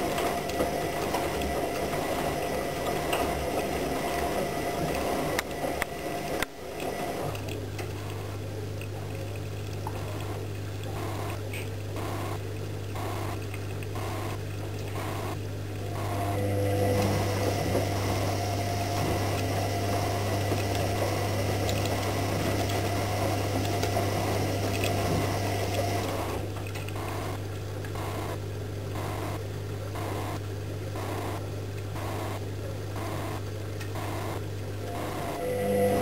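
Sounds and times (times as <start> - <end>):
washing machine hum: 0.0 - 36.0.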